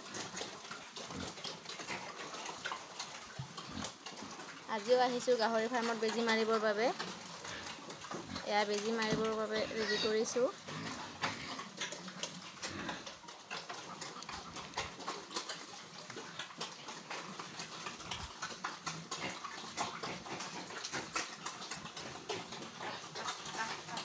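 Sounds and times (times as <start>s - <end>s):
pig grunting: 0.0s - 4.7s, 5.5s - 24.0s.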